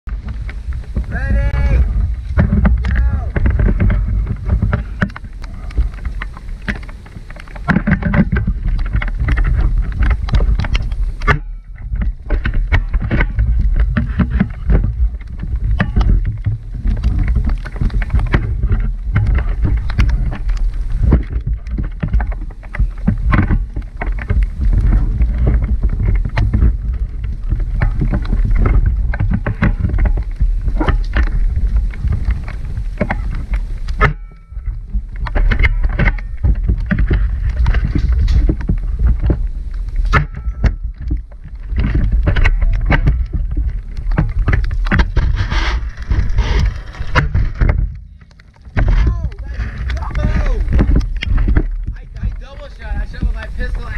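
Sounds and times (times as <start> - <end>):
wind on microphone: 0.0 - 53.9
rain taps: 0.1 - 53.9.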